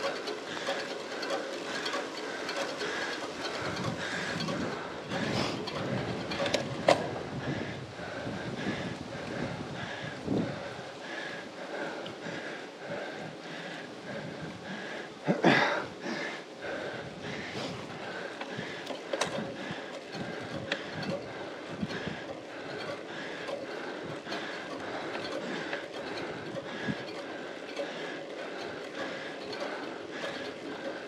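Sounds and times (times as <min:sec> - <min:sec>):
bike tyres hissing on wet tarmac: 0:00.0 - 0:31.0
cyclist breathing hard: 0:00.0 - 0:31.0.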